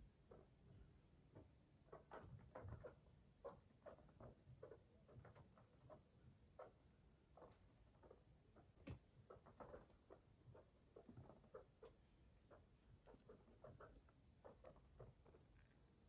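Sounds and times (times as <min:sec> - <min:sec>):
guinea pig feet pattering: 0:00.0 - 0:16.0.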